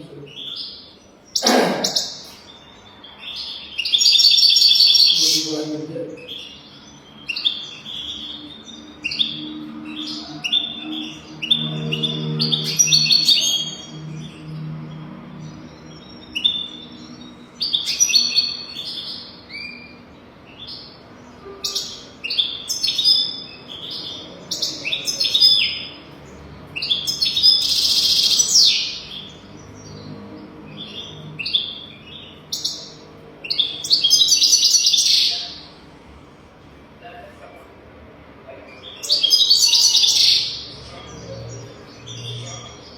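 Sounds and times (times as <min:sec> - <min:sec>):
goldfinch twittering chirps and trills: 0:00.0 - 0:35.6, 0:38.8 - 0:42.9.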